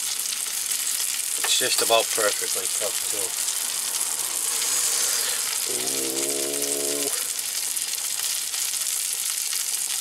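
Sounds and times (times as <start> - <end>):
fish sizzling in a pan: 0.0 - 10.0.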